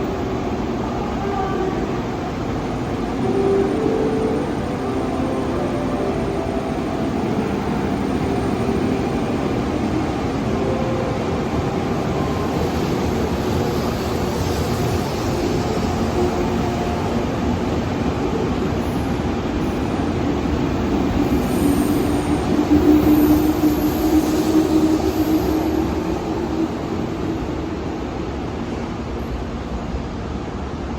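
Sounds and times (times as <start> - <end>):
train wheels on rail: 1.7 - 30.9.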